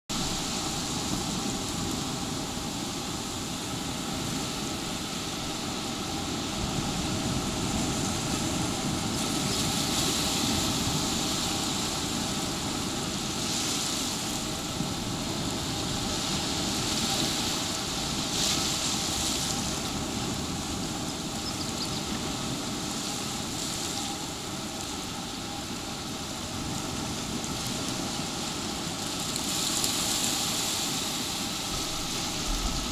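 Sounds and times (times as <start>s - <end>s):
ocean surf breaking: 0.1s - 32.9s.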